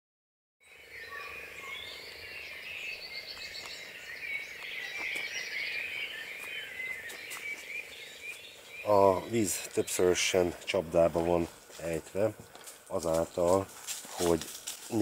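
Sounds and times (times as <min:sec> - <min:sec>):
birds chirping and trilling: 0:00.6 - 0:15.0.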